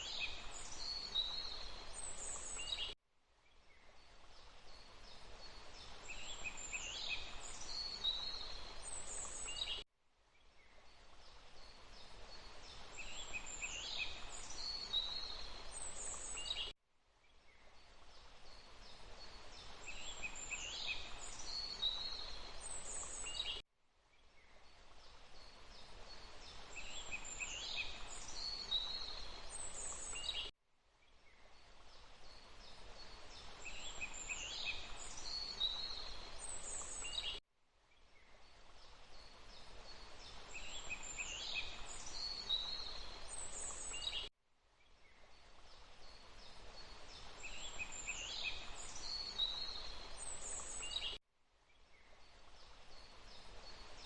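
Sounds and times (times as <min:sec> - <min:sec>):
background noise hiss: 0:00.0 - 0:54.0.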